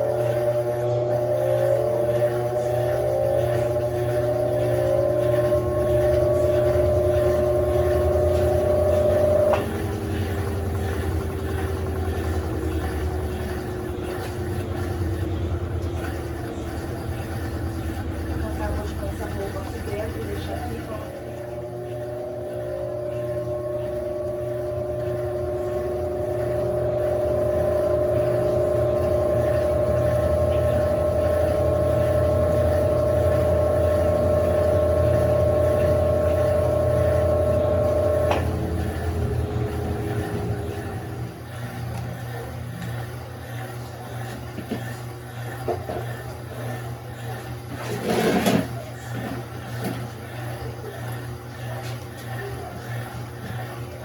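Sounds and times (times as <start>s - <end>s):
washing machine motor whining: 0.0s - 54.0s.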